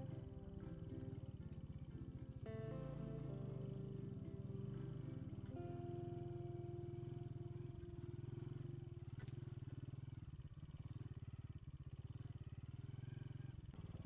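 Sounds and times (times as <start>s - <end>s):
motorcycle engine low revs: 0.0s - 14.0s.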